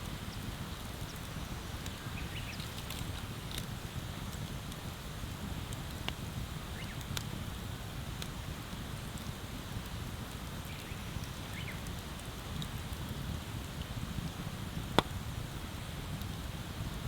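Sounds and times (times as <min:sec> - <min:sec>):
bonfire crackling and popping: 0:00.1 - 0:17.0.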